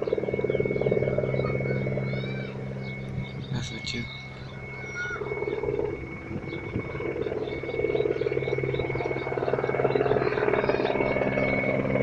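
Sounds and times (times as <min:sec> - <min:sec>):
distant helicopter: 0:00.0 - 0:12.0.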